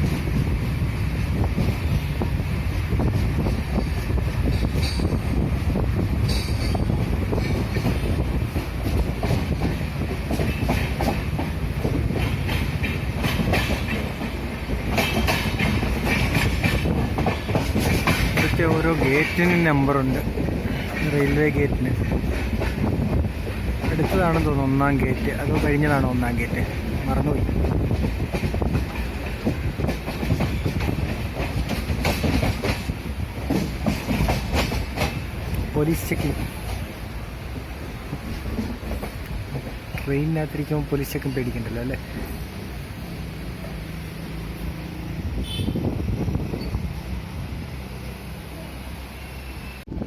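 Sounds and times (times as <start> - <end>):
train wheels clattering on track: 0.0 - 47.2.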